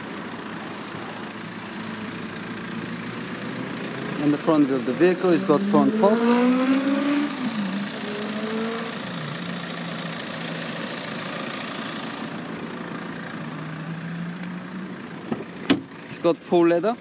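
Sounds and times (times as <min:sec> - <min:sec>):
vehicle engine idling: 0:00.0 - 0:06.4, 0:07.3 - 0:17.0.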